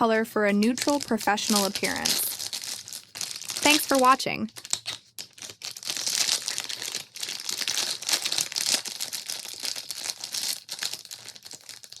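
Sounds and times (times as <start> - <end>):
crinkling handling noise: 0.6 - 12.0.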